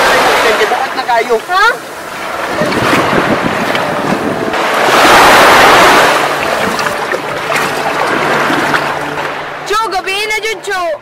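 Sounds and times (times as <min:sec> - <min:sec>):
sea surf washing over shallow water: 0:00.0 - 0:09.7.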